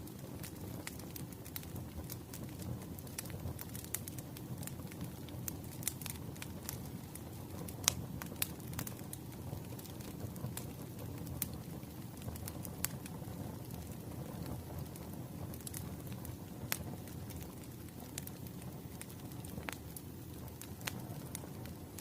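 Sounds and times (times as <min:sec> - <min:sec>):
low rumble of flame: 0:00.0 - 0:22.0
firewood logs crackling: 0:00.1 - 0:22.0.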